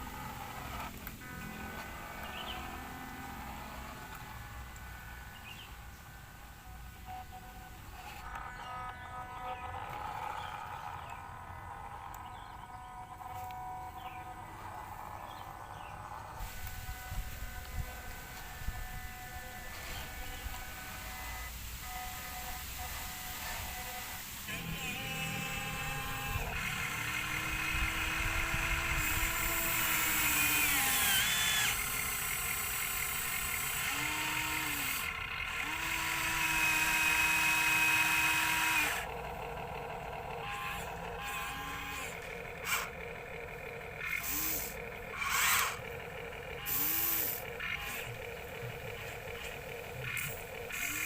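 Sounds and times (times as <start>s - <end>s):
small electric motors whining: 0.0s - 51.0s.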